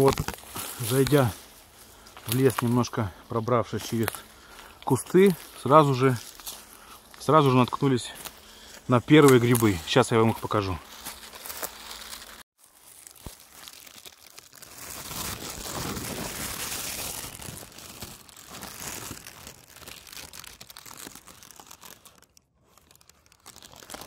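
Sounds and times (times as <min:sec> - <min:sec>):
plastic bag crinkling and rustling: 0:00.0 - 0:24.0.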